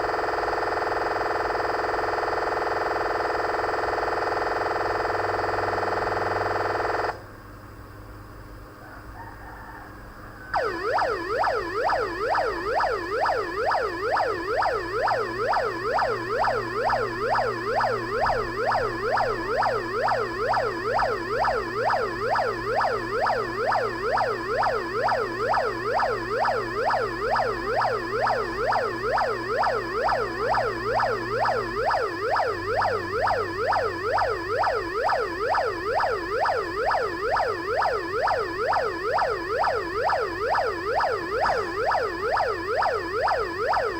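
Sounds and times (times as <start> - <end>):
electronic police siren yelp: 0.0 - 7.2, 9.0 - 43.9.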